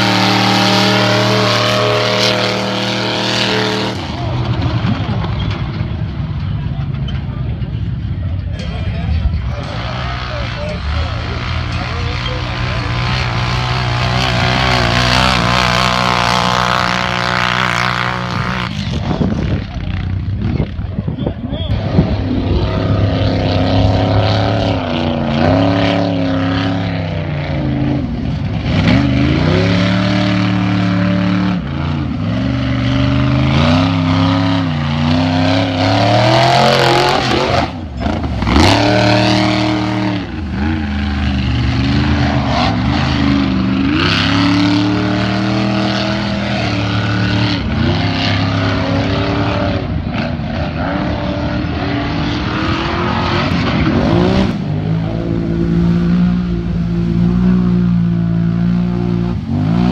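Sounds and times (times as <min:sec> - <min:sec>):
truck engines revving: 0:00.0 - 0:59.9.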